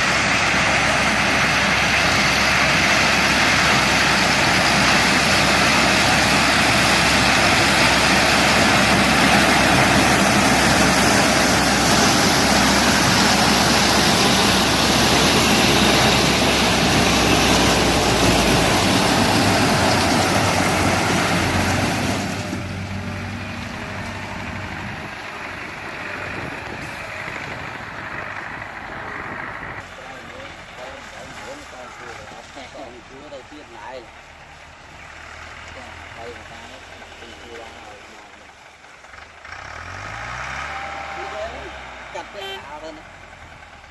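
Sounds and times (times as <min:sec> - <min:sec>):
diesel engine running: 0:00.0 - 0:43.9
harvesting machinery noise: 0:00.0 - 0:43.9.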